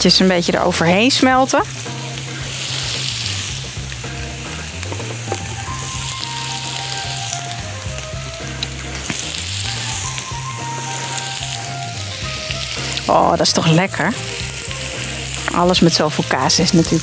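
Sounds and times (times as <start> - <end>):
burgers sizzling on a grill: 0.0 - 17.0.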